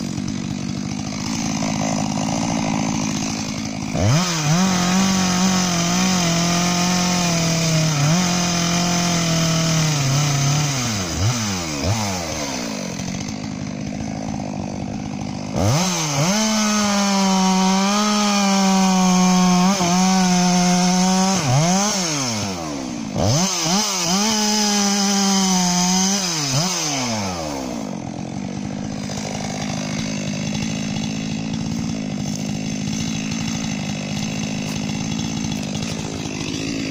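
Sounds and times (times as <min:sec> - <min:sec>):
chainsaw cutting a log: 0:00.0 - 0:36.9.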